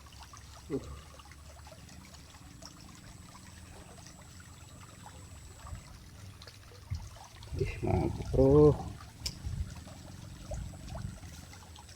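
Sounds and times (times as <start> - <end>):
stream water rushing: 0.0 - 11.9.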